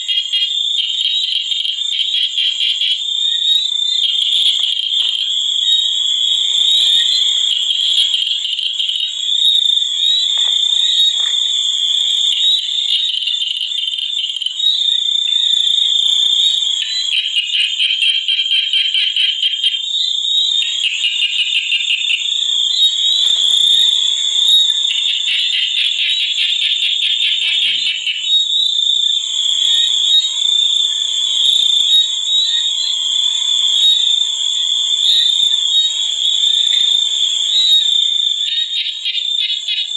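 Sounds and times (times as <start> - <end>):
frogs calling in pulsed trills: 0.0 - 39.9.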